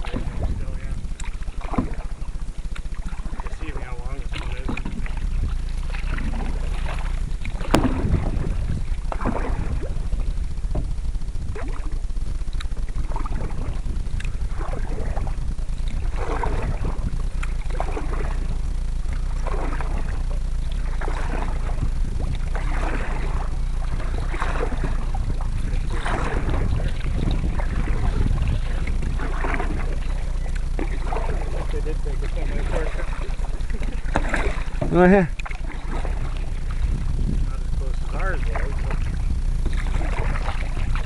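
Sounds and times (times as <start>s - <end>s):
paddle strokes swishing through water: 0.0s - 41.0s
wind rumble on microphone: 0.0s - 41.0s.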